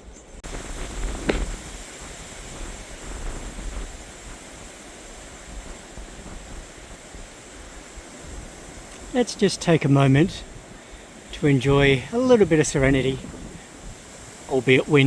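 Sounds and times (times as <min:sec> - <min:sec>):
gusty wind on microphone: 0:00.4 - 0:15.0.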